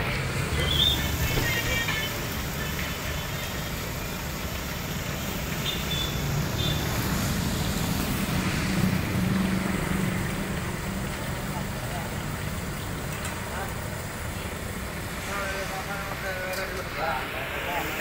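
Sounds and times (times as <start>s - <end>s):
roadside traffic noise: 0.0s - 18.0s.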